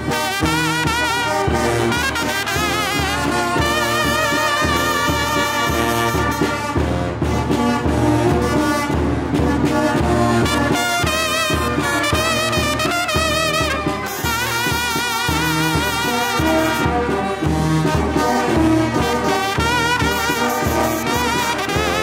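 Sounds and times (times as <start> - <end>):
horns playing melody with vibrato: 0.0 - 22.0.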